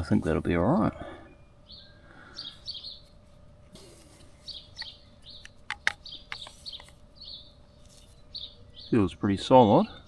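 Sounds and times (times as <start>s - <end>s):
birds chirping: 0.0s - 3.2s, 3.8s - 10.0s.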